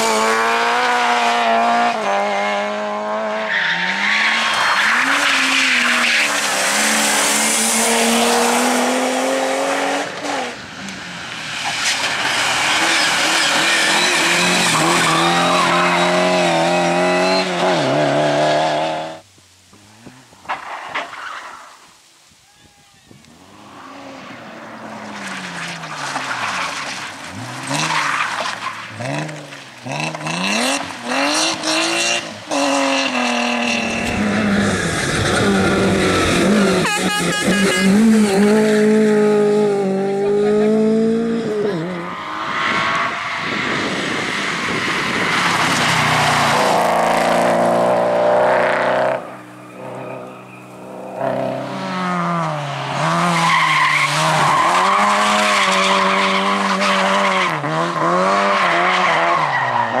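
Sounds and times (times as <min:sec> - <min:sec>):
car engines revving hard: 0:00.0 - 0:19.2, 0:24.0 - 1:00.0.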